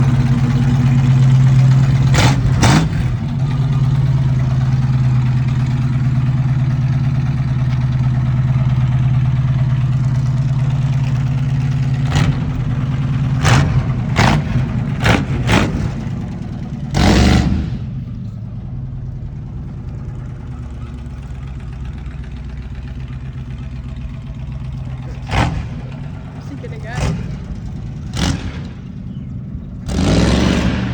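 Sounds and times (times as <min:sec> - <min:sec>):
truck engine running: 0:00.0 - 0:30.9.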